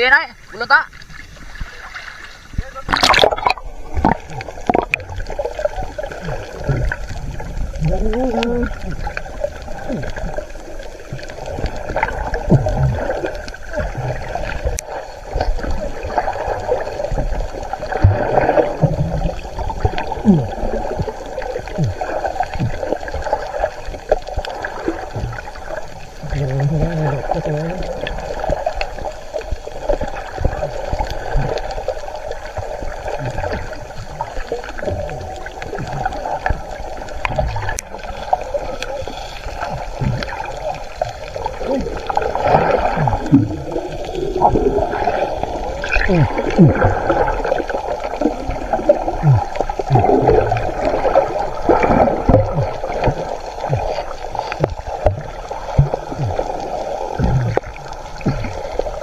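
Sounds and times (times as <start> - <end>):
underwater air bubbling: 0.0 - 59.0.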